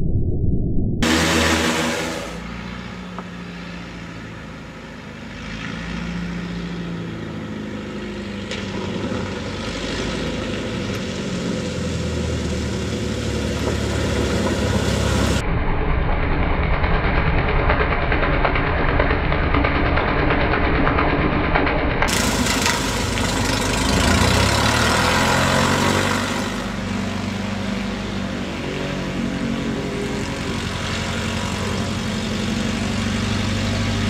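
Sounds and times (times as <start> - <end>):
propeller plane engine: 0.0 - 34.0.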